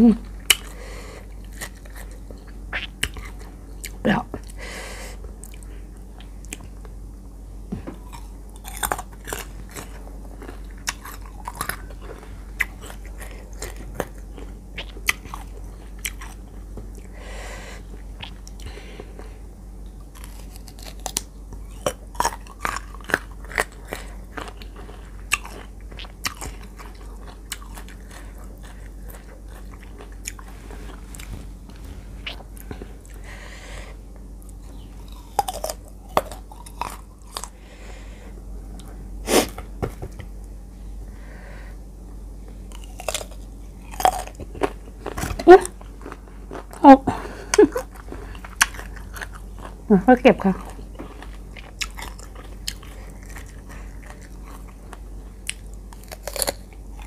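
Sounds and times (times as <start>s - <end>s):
crunchy chewing of mango: 0.2s - 57.0s.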